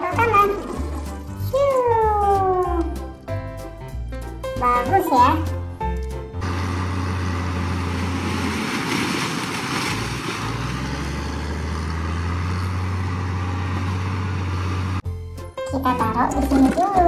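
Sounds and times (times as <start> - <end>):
diesel engine humming: 2.7 - 16.4.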